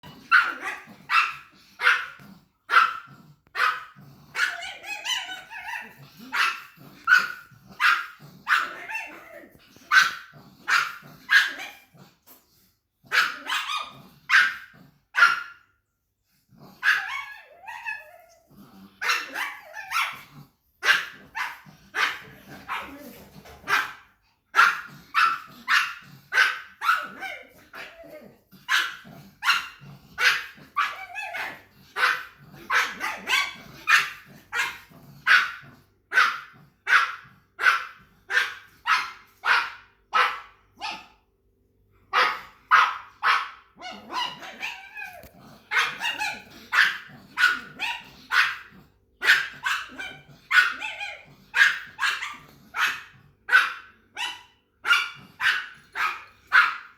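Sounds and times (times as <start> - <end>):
dog barking: 0.3 - 9.2, 9.8 - 11.8, 13.1 - 15.6, 20.8 - 23.0, 23.6 - 27.9, 28.7 - 41.2, 42.1 - 56.9.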